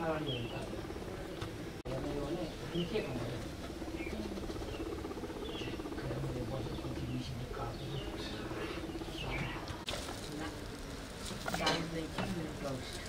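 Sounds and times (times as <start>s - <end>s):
guinea pigs purring: 0.0s - 13.0s.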